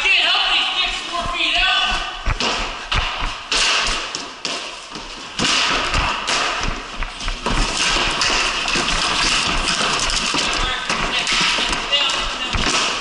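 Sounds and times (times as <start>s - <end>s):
hockey sticks tapping on concrete: 0.8s - 13.0s.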